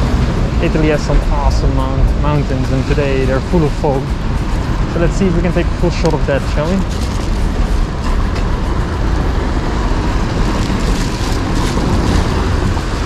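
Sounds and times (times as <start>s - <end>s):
low traffic rumble: 0.0s - 13.0s
tyres hissing on wet street: 0.0s - 13.0s.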